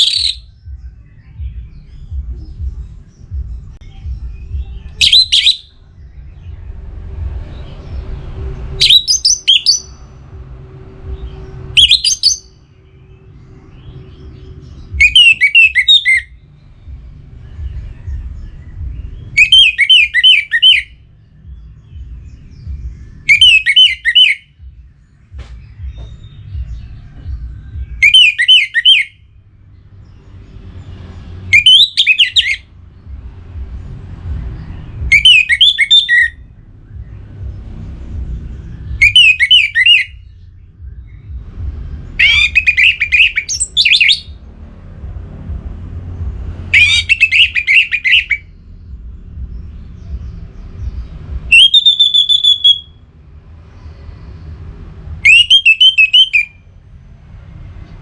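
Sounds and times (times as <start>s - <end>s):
low steady rumble: 0.0s - 58.0s.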